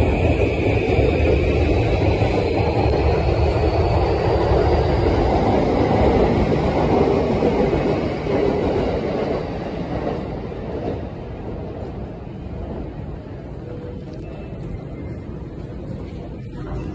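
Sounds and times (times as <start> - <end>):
train on rails: 0.0 - 16.9.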